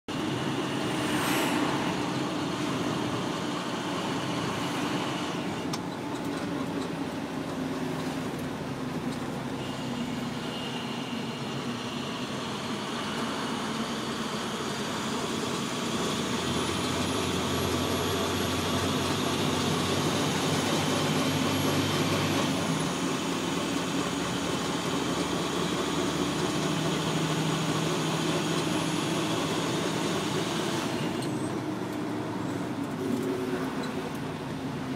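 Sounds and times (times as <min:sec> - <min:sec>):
vehicle engine and road noise: 0:00.1 - 0:34.9.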